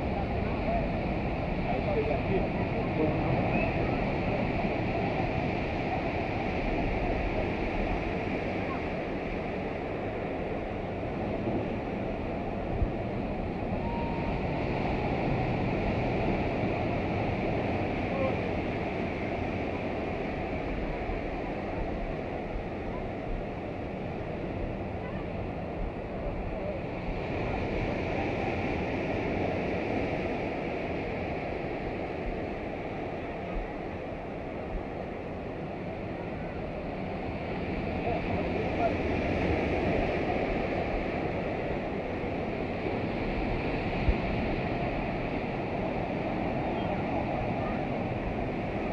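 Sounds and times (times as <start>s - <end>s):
waves breaking on beach: 0.0s - 48.9s.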